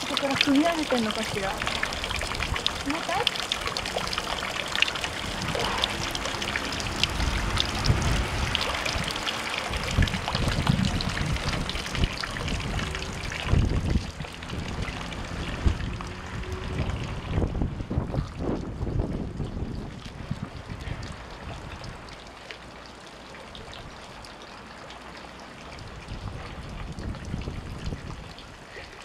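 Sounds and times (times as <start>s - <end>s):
water trickling from a spout: 0.0s - 29.0s.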